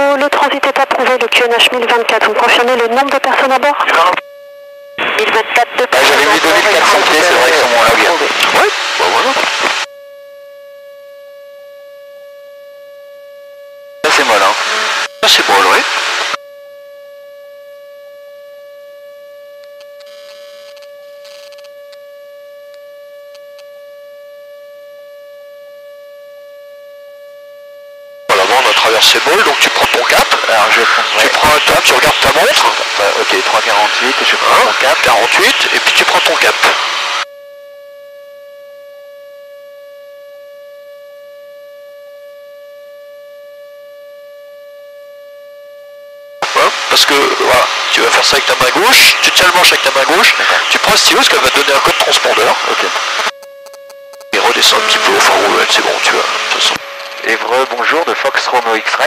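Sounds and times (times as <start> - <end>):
steady electrical whine: 0.0 - 59.0.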